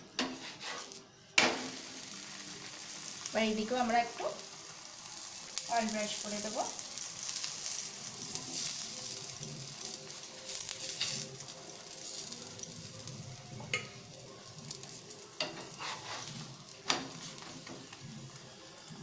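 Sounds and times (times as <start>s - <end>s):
oil sizzling in pan: 0.0s - 19.0s.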